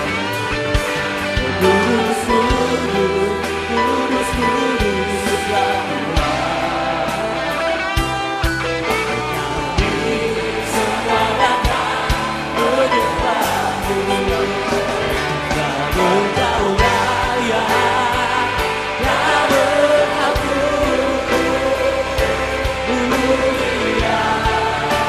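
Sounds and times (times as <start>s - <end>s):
worship band playing: 0.0s - 25.0s
man singing into a microphone: 1.2s - 8.0s, 9.2s - 25.0s.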